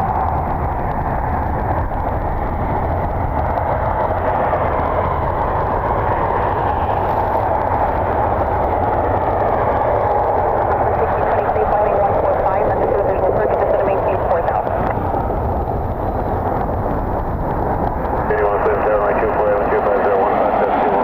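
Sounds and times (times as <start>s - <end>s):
jet airliner engines rushing: 0.0s - 21.0s.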